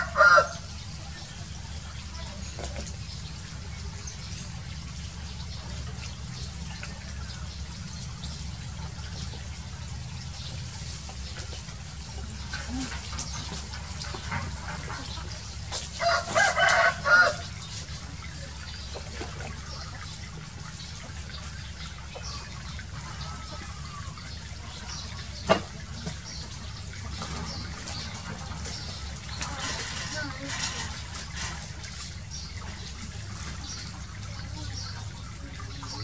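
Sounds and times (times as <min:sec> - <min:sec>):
shallow water trickling over concrete: 0:00.0 - 0:36.0.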